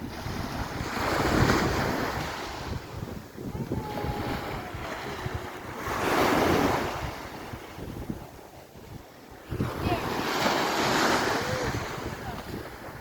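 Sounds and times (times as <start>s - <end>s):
small waves breaking on beach: 0.0s - 13.0s
wind buffeting microphone: 0.0s - 13.0s.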